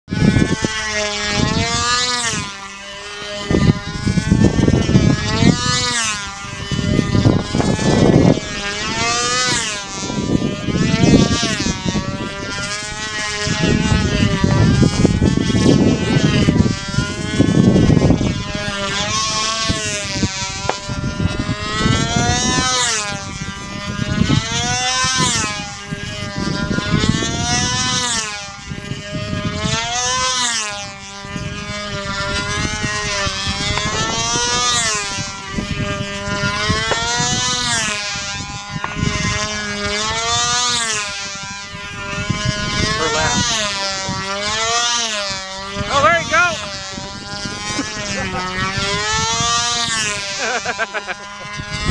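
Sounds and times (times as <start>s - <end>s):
model plane engine buzzing: 0.0s - 51.9s.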